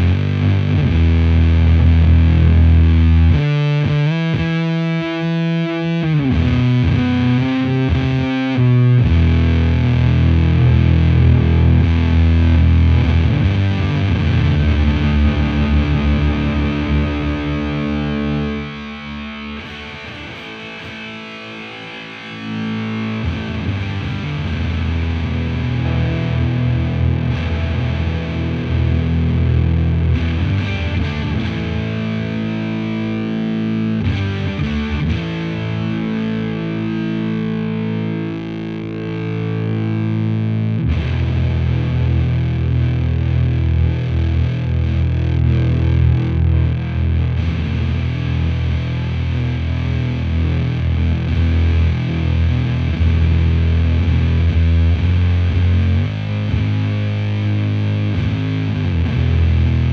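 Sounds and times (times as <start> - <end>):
fuzzed electric guitar riffing: 0.0 - 59.9.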